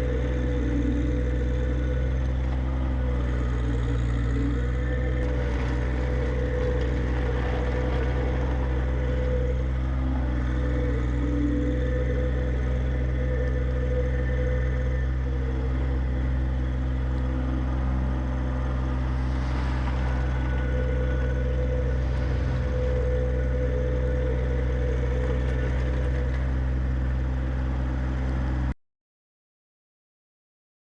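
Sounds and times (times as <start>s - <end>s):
faint high whine: 0.0s - 28.7s
tractor diesel engine running: 0.0s - 28.8s.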